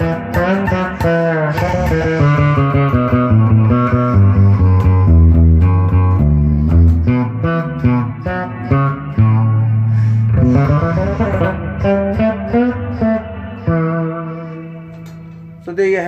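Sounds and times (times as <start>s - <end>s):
electric bass guitar plucked notes: 0.0s - 16.0s.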